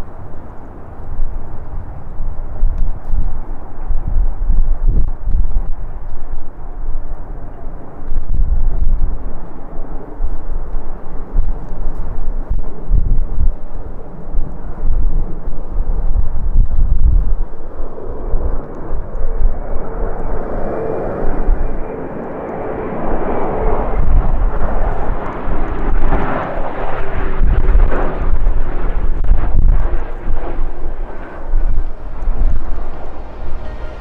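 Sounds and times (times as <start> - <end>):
faint engine whine: 0.0 - 16.5, 17.2 - 26.9, 27.8 - 34.0
jet engines rushing: 0.0 - 34.0
wind buffeting microphone: 0.0 - 34.0.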